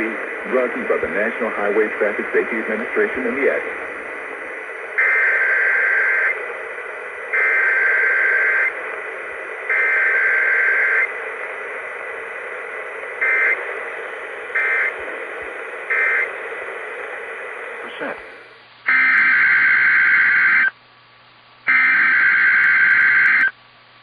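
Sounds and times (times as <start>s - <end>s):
radio hiss: 0.0s - 20.8s, 21.5s - 23.6s.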